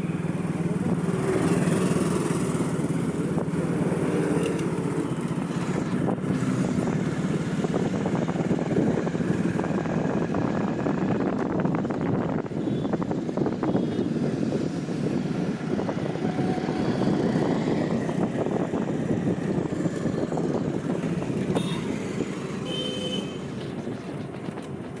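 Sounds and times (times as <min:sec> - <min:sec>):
road and traffic noise: 0:00.0 - 0:25.0
wind rushing on microphone: 0:00.7 - 0:22.6.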